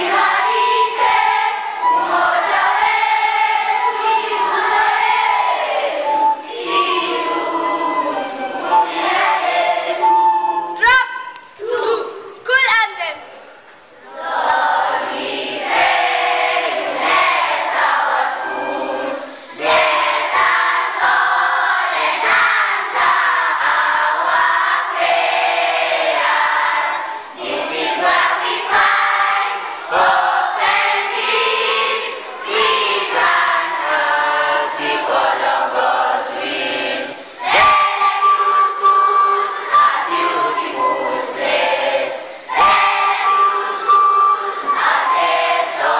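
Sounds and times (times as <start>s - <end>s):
children's choir singing: 0.0s - 11.0s, 13.9s - 45.9s.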